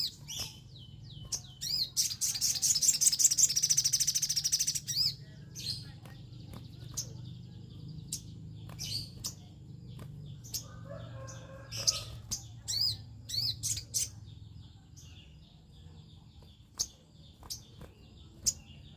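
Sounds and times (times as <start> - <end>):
bird chirps and trills: 0.0 - 18.9.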